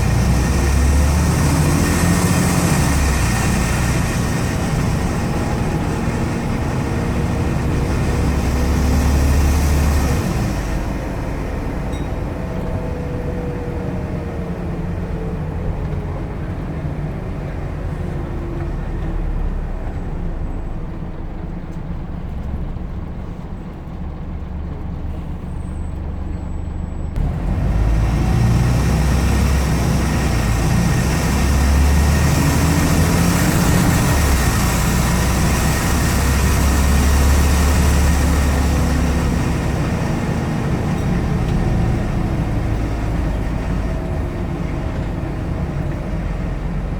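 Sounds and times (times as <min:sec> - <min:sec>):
bus engine accelerating: 0:00.0 - 0:46.9.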